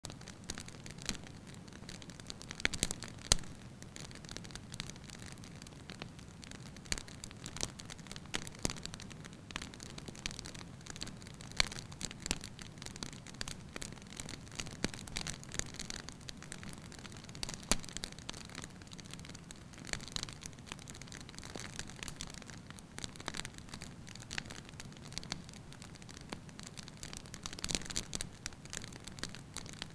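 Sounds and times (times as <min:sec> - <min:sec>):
wood fire crackling: 0:00.1 - 0:29.9.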